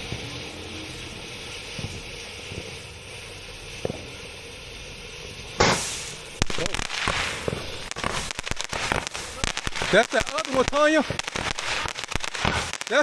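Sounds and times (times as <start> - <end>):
firework bursting: 0.0 - 13.0
steady hiss: 0.0 - 13.0.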